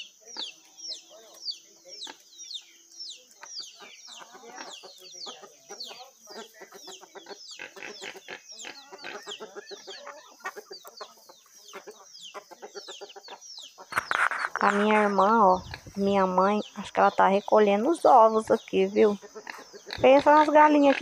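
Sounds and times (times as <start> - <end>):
chickens clucking: 0.0 - 21.0
high falling chick peeps: 0.0 - 21.0.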